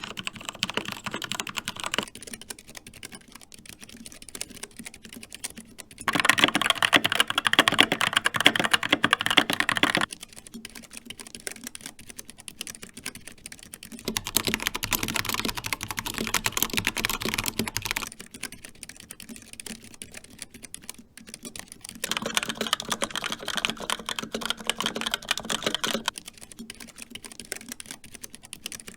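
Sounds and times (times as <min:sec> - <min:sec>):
fast mechanical keyboard typing: 0:00.0 - 0:28.9.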